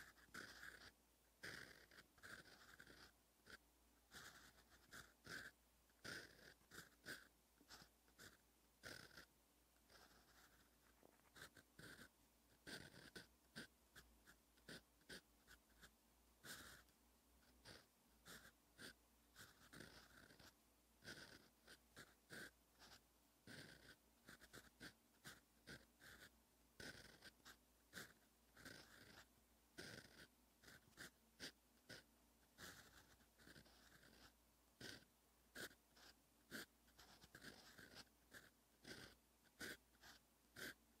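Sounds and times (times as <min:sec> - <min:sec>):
pen nib scratching paper: 0:00.0 - 0:41.0.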